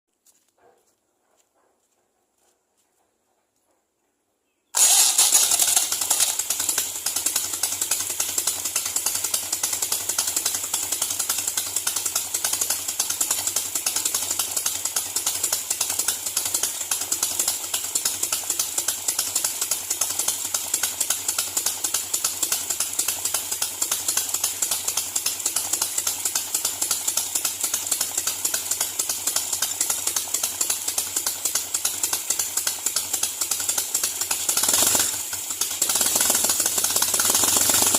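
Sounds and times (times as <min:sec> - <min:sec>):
motorcycle engine pulsing exhaust: 0:04.8 - 0:37.9.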